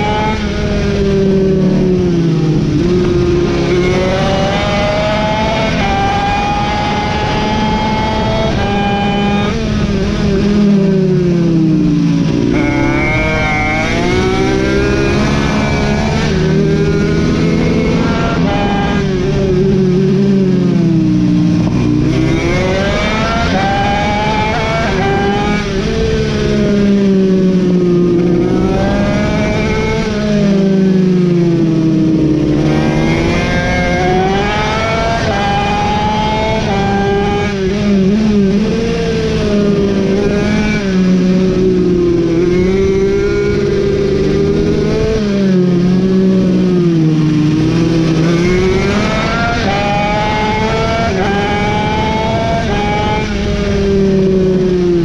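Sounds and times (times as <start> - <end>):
racing mini bike engine revving: 0.0 - 55.0.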